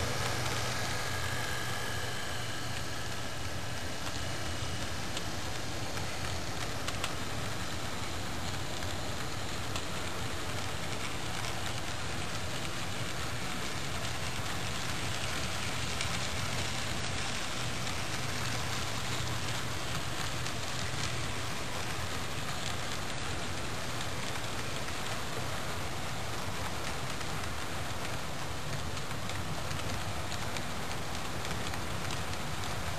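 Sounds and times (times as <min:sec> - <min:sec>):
model train wheels rattling: 0:04.0 - 0:32.9.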